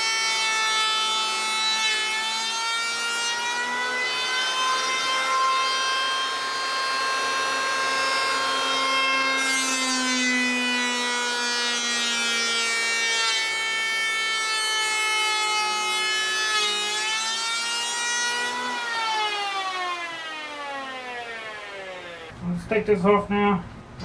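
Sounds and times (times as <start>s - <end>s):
electric hand planer whining: 0.0s - 22.3s.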